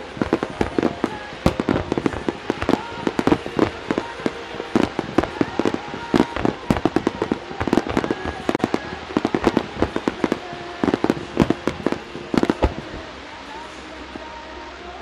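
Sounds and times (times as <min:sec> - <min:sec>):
fireworks booming: 0:00.0 - 0:13.7.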